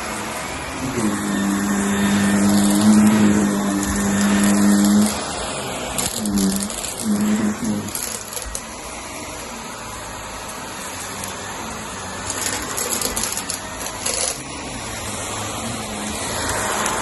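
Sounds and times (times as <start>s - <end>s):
vacuum cleaner on rug: 0.0s - 17.0s.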